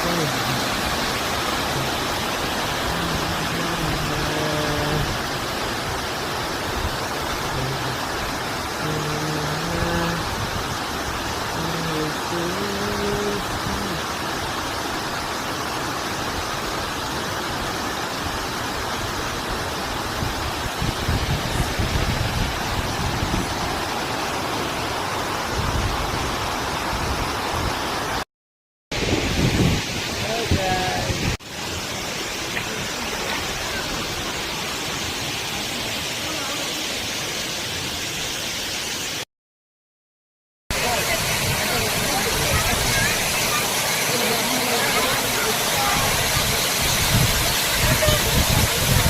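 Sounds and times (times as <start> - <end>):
waterfall rushing: 0.0 - 28.2, 28.9 - 39.2, 40.7 - 49.0.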